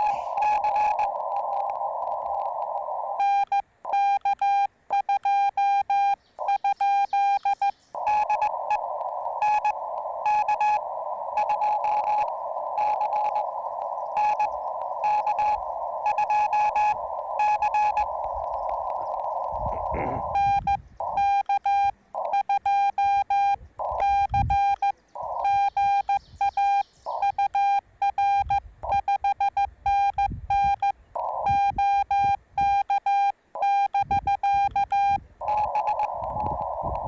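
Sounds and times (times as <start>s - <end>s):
morse code tone: 0.0s - 1.6s, 3.2s - 37.0s
radio band hiss: 0.0s - 4.2s, 6.4s - 27.8s, 30.6s - 37.0s.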